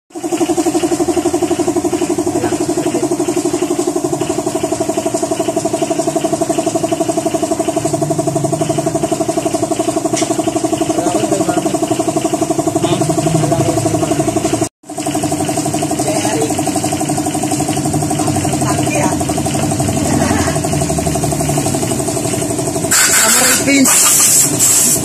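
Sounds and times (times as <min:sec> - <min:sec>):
machine running with fast pulse: 0:00.1 - 0:25.0.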